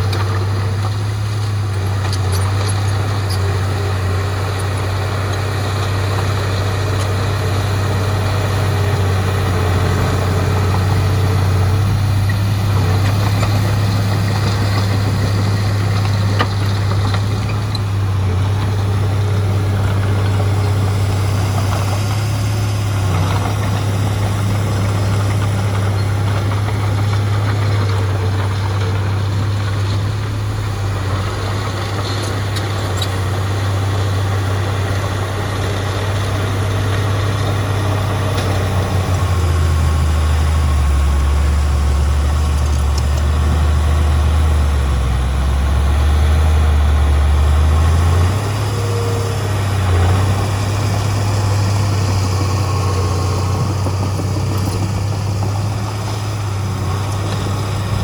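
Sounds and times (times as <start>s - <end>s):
heavy diesel engine drone: 0.0s - 58.0s.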